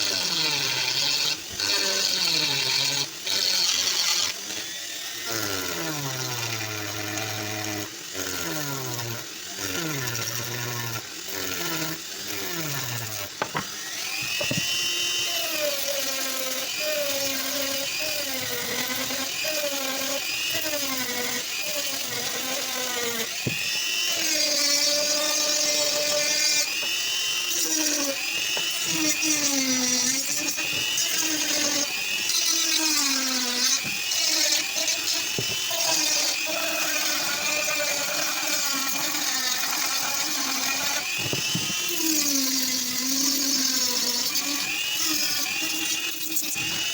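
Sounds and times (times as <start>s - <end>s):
electric rotary tool whining: 0.0s - 46.9s.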